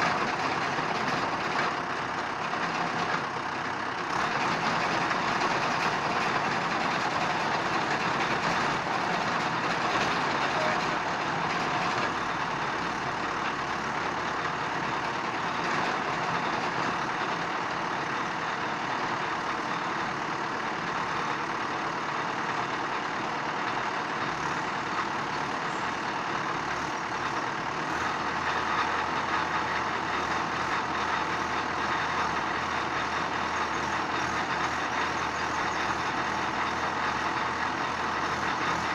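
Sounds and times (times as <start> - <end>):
machine running steadily: 0.0 - 38.9.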